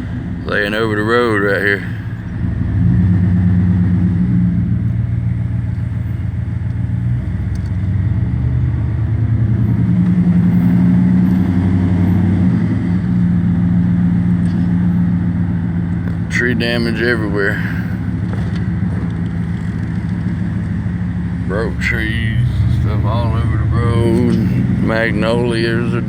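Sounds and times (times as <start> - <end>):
car engine driving slowly: 0.0 - 26.0.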